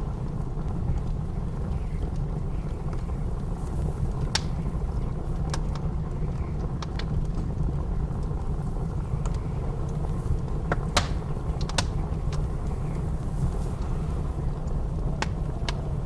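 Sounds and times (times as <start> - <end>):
blizzard wind rumbling: 0.0 - 16.0
wood fire crackling: 0.0 - 16.0.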